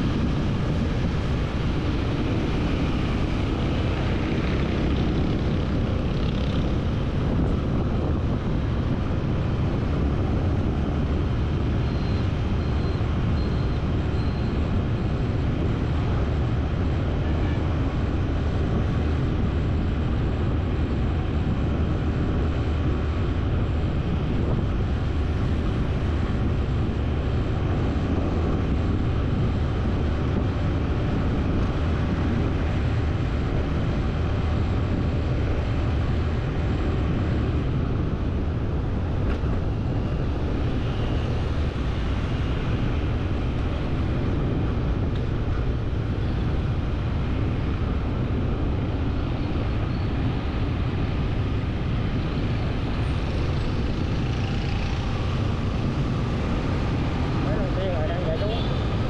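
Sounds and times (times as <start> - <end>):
vehicle rumble: 0.0 - 59.0.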